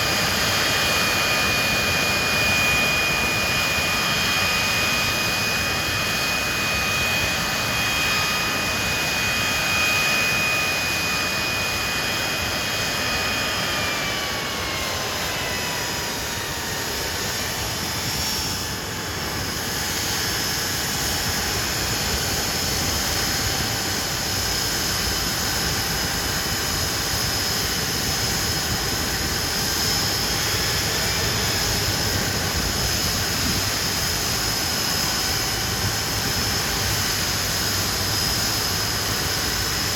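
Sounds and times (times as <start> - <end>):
jet engines roaring and whining: 0.0 - 39.9.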